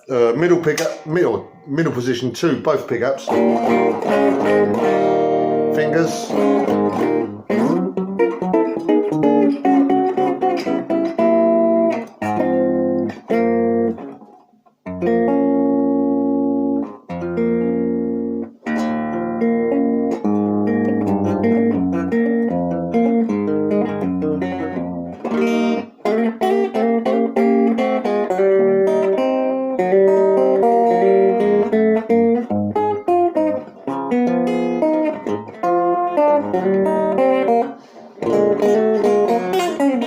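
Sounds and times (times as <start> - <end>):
clean electric guitar fingerstyle: 0.0 - 40.0.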